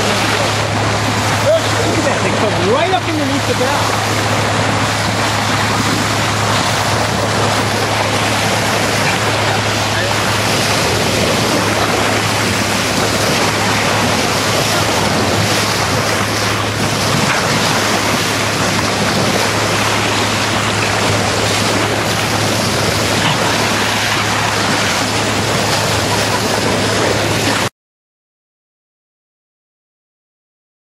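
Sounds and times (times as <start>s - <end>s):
steady low hum: 0.0s - 27.6s
water rushing along boat bow: 0.0s - 27.7s
wind buffeting microphone: 0.0s - 27.7s.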